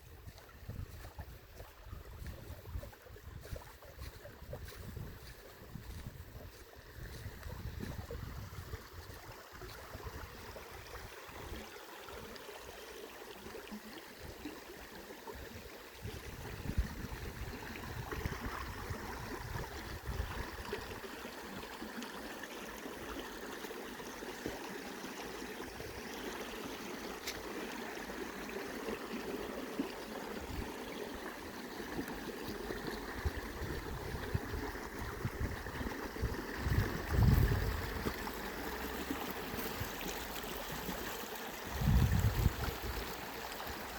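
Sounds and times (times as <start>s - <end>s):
river water flowing over stones: 0.0s - 43.9s.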